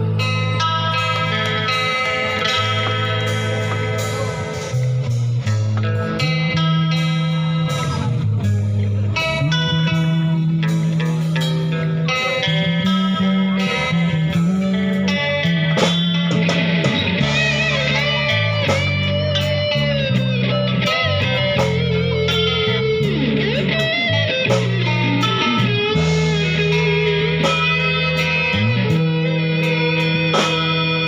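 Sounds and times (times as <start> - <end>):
electric guitar melody: 0.0 - 31.0
stepping bass line: 0.0 - 31.0.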